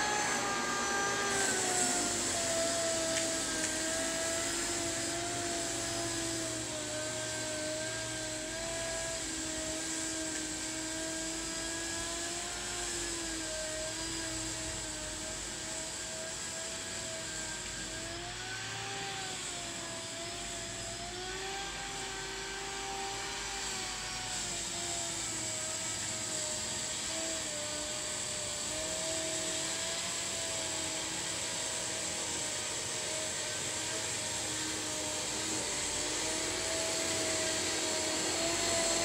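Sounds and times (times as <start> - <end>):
electric lawn dethatcher whining: 0.0 - 39.0.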